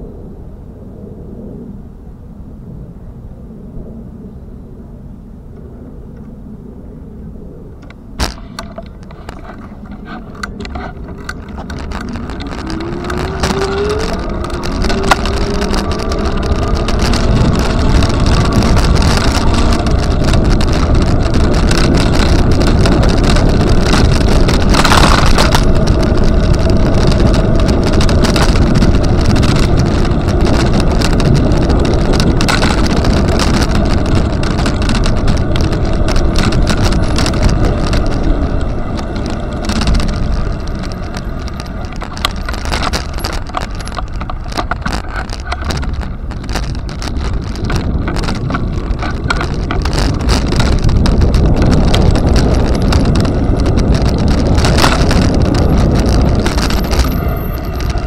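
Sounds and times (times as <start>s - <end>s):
rushing ride noise: 1.0s - 58.0s.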